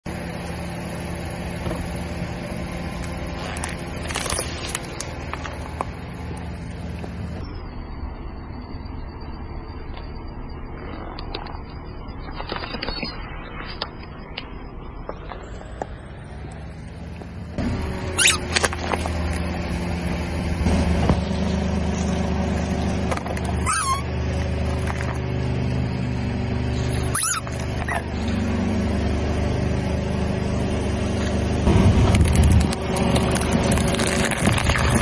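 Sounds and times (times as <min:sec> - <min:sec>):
car engine running slowly: 0:00.1 - 0:35.0.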